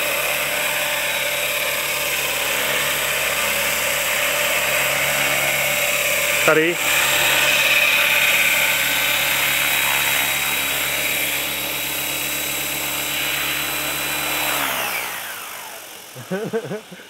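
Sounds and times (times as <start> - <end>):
model helicopter rotor whining: 0.0 - 17.0.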